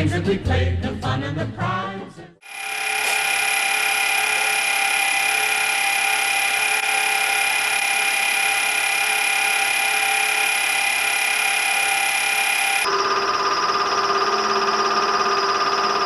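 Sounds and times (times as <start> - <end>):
film projector whirring: 2.4 - 16.0.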